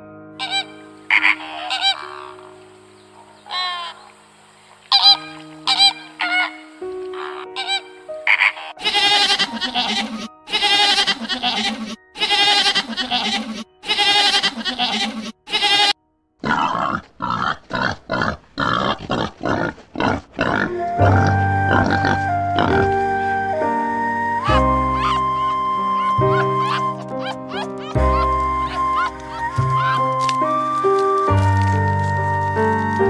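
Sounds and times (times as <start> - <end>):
background music: 0.0 - 18.9, 19.5 - 33.0
animal grunt-like calls: 0.4 - 2.6, 3.2 - 4.1, 4.9 - 23.2, 24.4 - 30.0
animal wavering cries: 0.4 - 2.6, 3.2 - 4.1, 4.9 - 33.0.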